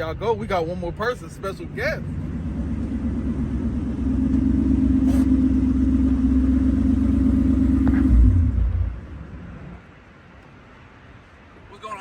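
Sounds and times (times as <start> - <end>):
car exhaust idling rumble: 0.0 - 9.8.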